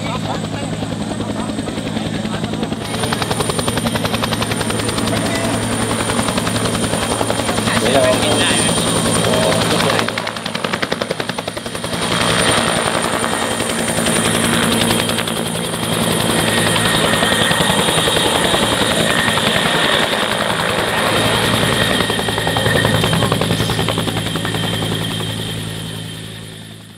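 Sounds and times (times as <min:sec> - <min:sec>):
helicopter hovering: 0:00.0 - 0:26.9.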